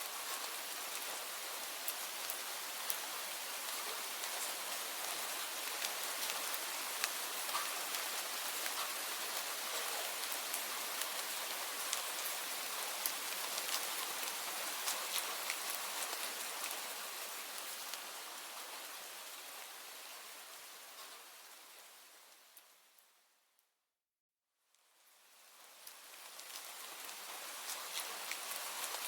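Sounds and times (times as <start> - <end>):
steady rain with drops ticking: 0.0 - 23.8, 24.6 - 29.0.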